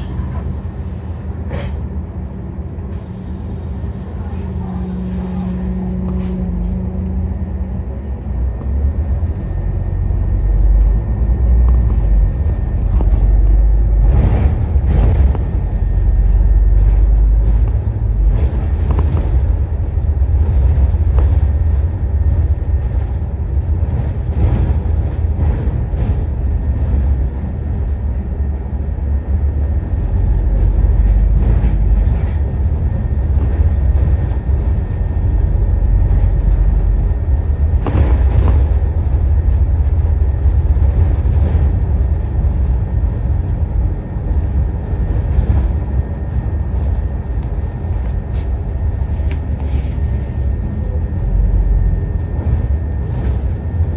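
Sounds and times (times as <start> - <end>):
knocks and rattles from bus body: 0.0 - 3.4, 8.1 - 53.9
bus engine and road rumble: 0.0 - 53.9.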